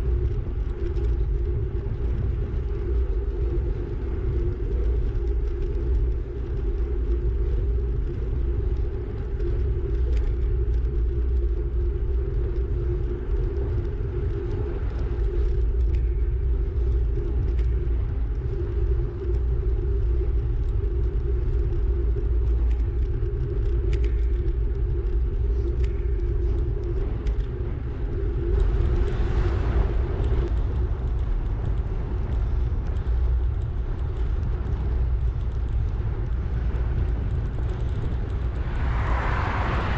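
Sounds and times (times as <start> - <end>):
faint ticks: 0.0 - 39.9
wind buffeting microphone: 0.0 - 39.9.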